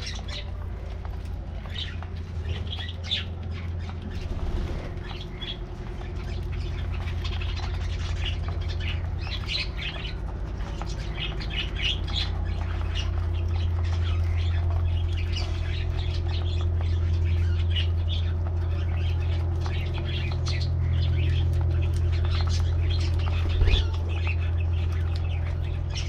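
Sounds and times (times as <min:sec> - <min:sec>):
budgies chirping and squawking: 0:00.0 - 0:26.0
steady low hum: 0:00.0 - 0:26.0.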